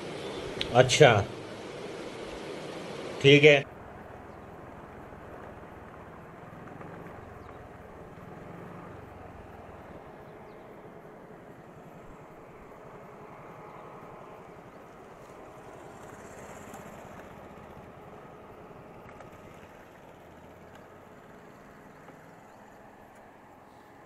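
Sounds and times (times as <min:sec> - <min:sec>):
motor scooter engine and road noise: 0:00.0 - 0:24.0.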